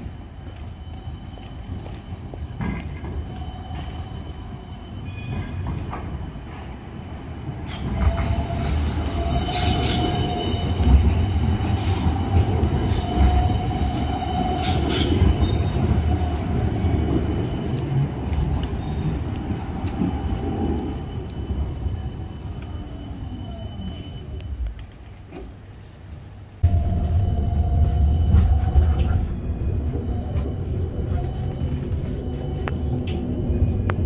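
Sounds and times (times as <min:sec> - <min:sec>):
tram rumble: 0:00.0 - 0:34.0.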